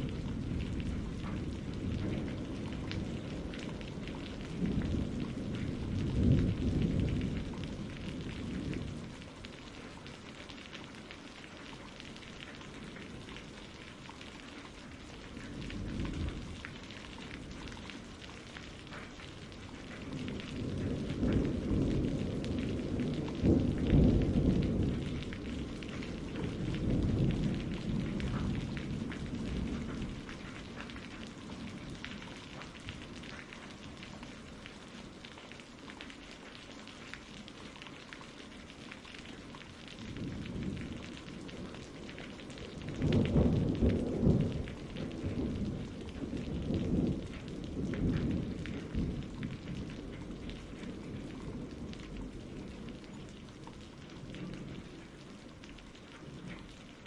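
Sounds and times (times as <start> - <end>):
thunder rumbling: 0.0 - 10.3, 15.1 - 35.2, 39.3 - 55.5
steady rain falling: 0.0 - 57.0.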